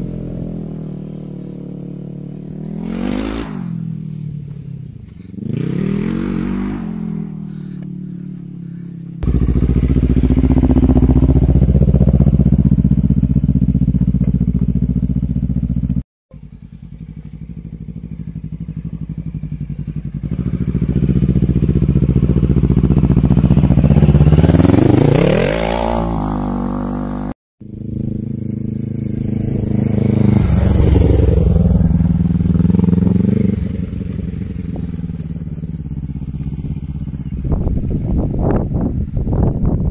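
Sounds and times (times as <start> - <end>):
quad engine revving: 0.0 - 16.0, 17.5 - 39.5.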